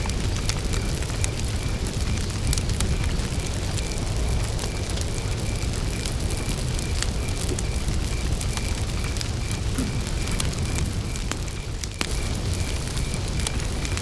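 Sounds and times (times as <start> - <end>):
campfire crackling and popping: 0.0 - 14.0
cricket chirping: 0.0 - 14.0.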